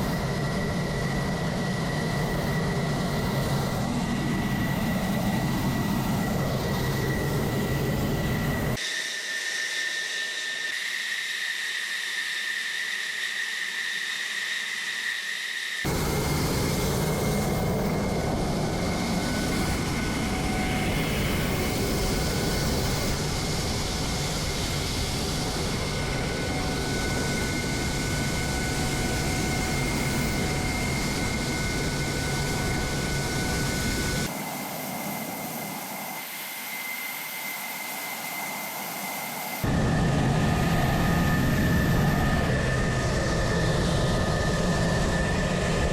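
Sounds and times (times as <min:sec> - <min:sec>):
jet engine whine and rush: 0:00.0 - 0:45.9.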